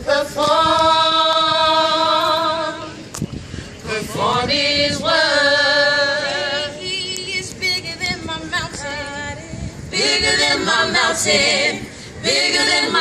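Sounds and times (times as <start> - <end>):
group singing a cappella: 0.0 - 3.1, 3.8 - 13.0.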